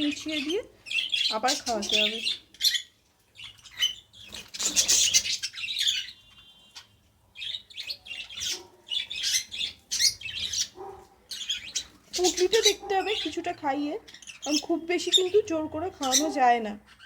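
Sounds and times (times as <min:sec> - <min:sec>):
bird chick squeaky chirps: 0:00.0 - 0:17.0.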